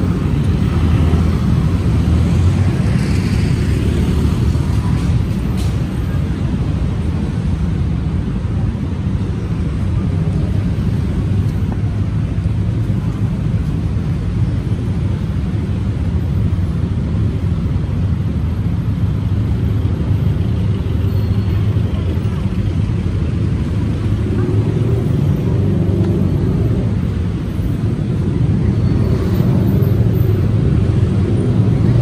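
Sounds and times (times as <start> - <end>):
city street traffic hum: 0.0 - 32.0.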